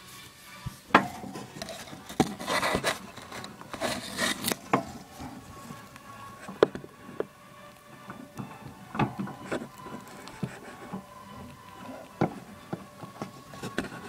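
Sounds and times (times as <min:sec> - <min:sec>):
rodent gnawing and rasping: 0:01.0 - 0:14.0.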